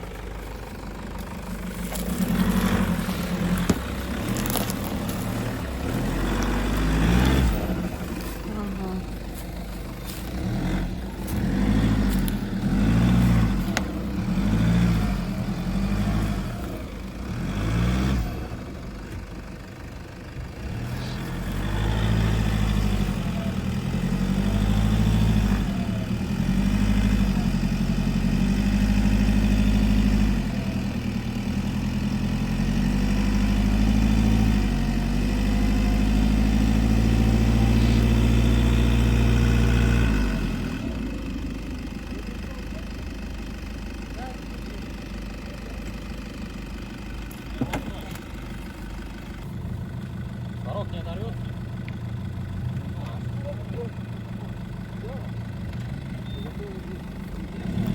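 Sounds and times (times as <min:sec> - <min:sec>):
engine revving: 0:00.0 - 0:19.2, 0:20.4 - 0:46.7, 0:47.4 - 0:57.9.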